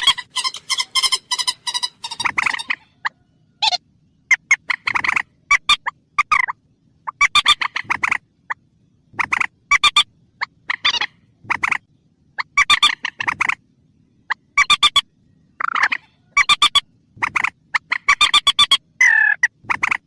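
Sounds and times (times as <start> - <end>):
rail bird call: 0.0 - 20.0.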